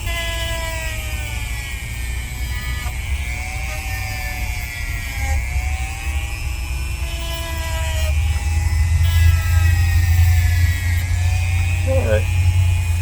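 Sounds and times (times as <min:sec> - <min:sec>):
rotary tool grinding nails: 0:00.0 - 0:13.0.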